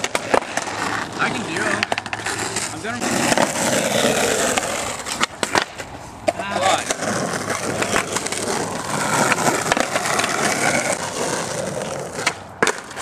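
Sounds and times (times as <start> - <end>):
skateboard clacks: 0.0 - 13.0
skateboard wheels rolling on asphalt: 0.0 - 13.0.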